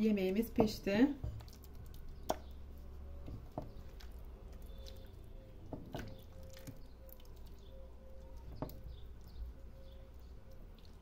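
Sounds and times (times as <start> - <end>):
spoon stirring wet stew: 0.4 - 11.0.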